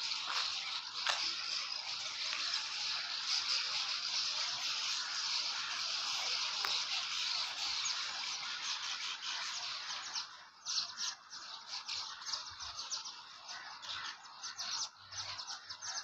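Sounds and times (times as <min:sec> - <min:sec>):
swallows chirping and twittering: 0:00.0 - 0:16.0.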